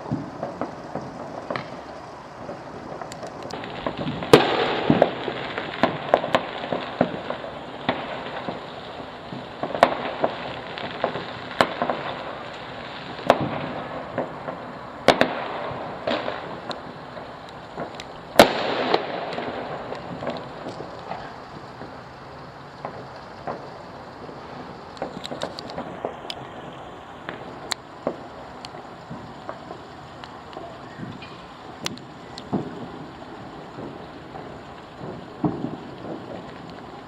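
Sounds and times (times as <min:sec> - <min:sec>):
fireworks bangs: 0:00.0 - 0:37.0
fireworks crackle: 0:00.0 - 0:37.0.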